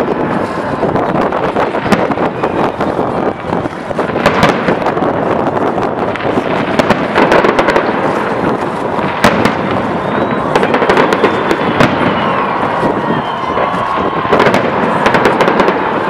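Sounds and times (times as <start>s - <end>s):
fireworks cracking and popping: 0.0s - 16.0s.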